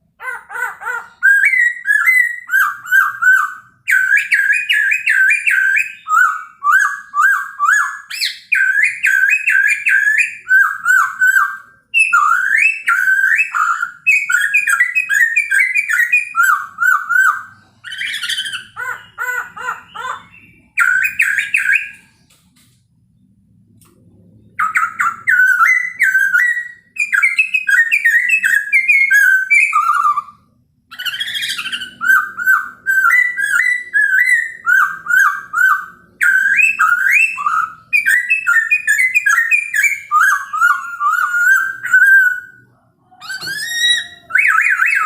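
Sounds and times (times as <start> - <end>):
bird singing whistled phrases: 0.9 - 22.2, 24.6 - 30.3, 30.9 - 42.6, 43.2 - 45.0.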